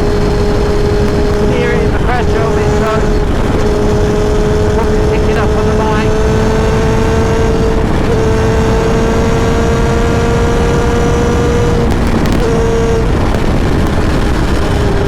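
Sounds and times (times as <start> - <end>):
motorcycle engine running: 0.0 - 15.0
road noise: 0.0 - 15.0
wind noise: 0.0 - 15.0.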